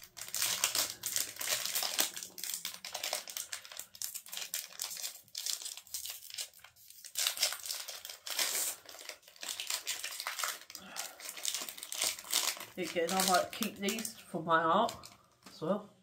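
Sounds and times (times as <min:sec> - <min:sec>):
wrapper rustling and crackling: 0:00.0 - 0:15.6.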